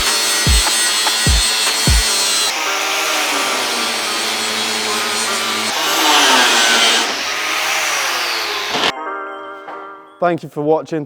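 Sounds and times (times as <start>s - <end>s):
power tool cutting: 0.0s - 8.9s.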